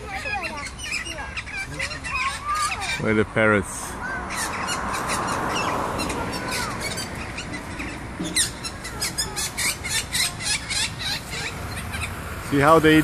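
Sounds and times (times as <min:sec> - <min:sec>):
parrots chirping and squawking: 0:00.0 - 0:13.0
rushing background noise: 0:00.0 - 0:13.0.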